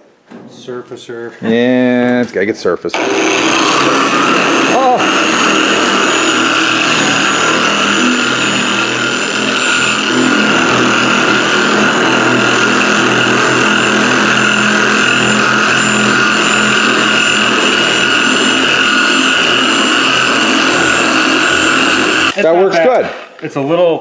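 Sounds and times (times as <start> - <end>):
electric polisher whining: 2.9 - 22.4
sanding disc rubbing metal: 3.0 - 22.4.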